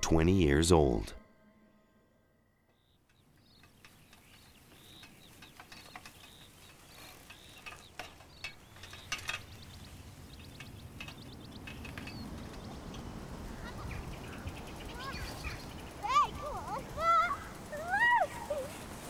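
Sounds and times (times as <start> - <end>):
small birds chirping: 2.7 - 19.0.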